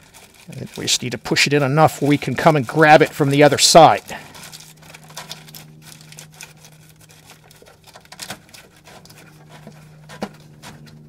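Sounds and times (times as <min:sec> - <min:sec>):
rustling plastic wire loom: 0:00.0 - 0:11.0
steady low hum: 0:00.0 - 0:11.0.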